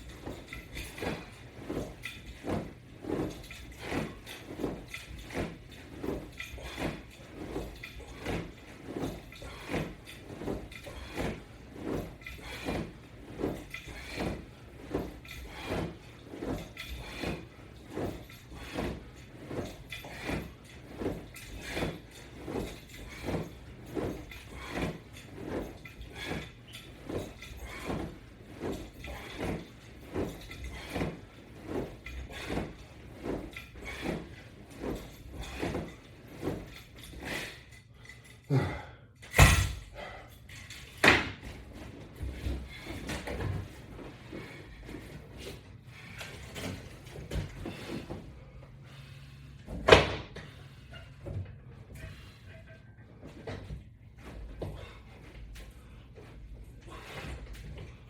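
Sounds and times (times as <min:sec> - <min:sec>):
resistance band exercise sound: 0:00.0 - 0:58.0.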